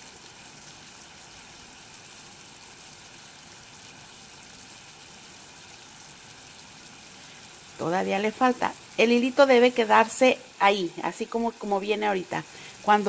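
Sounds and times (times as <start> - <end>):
syrup boiling in a pan: 0.0 - 13.0.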